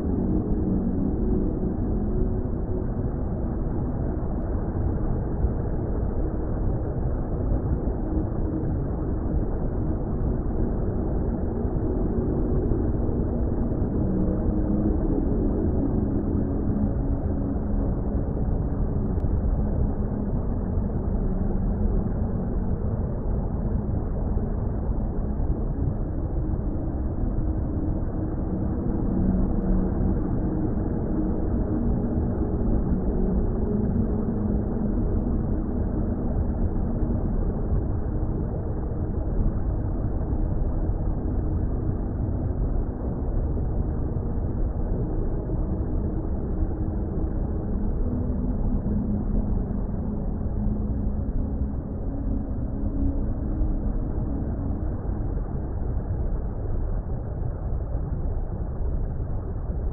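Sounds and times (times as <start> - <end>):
faint drone: 0.0 - 59.9
muffled rumble of water: 0.0 - 59.9.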